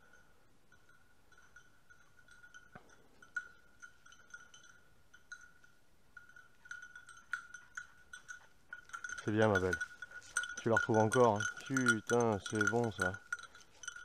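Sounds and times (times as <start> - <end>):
dog collar bell clinking: 0.0 - 14.0.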